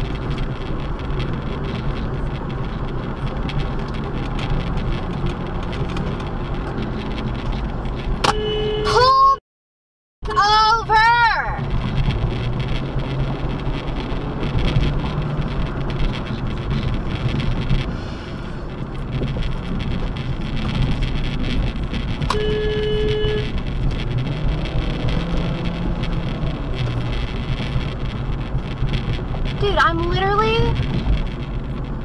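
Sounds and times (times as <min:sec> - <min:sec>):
car road and engine noise: 0:00.0 - 0:09.4, 0:10.2 - 0:32.0.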